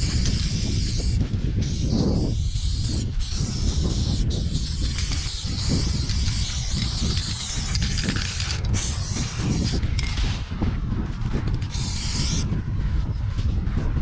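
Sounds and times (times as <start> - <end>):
spray paint can hissing: 0.0 - 10.4, 11.5 - 12.5.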